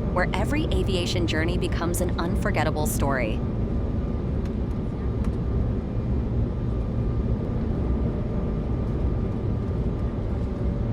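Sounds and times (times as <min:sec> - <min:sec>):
faint steady whine: 0:00.0 - 0:10.9
jet airliner rumble: 0:00.0 - 0:10.9.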